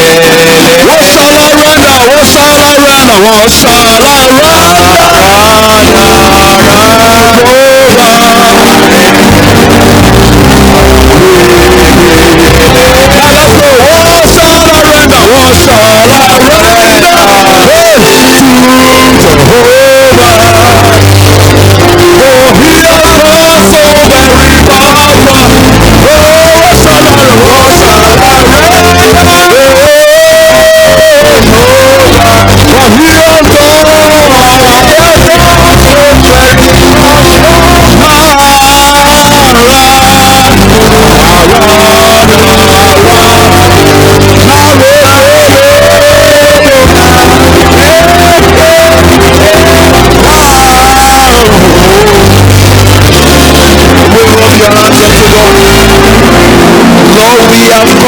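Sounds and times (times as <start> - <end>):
band with bass and keyboard: 0.0 - 58.0
man singing: 0.0 - 58.0.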